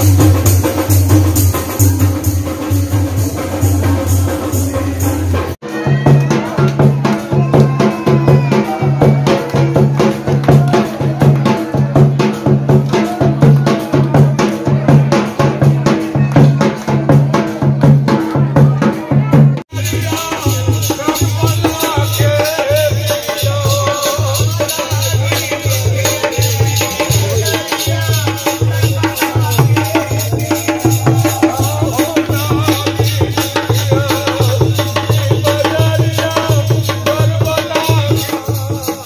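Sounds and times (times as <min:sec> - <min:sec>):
drumming: 0:00.0 - 0:39.0
song with drumbeat and shaker: 0:00.0 - 0:39.0.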